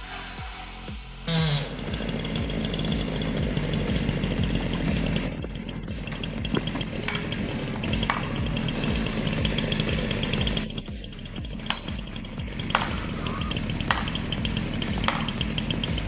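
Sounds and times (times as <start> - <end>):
forestry machinery rattling: 1.3 - 16.0.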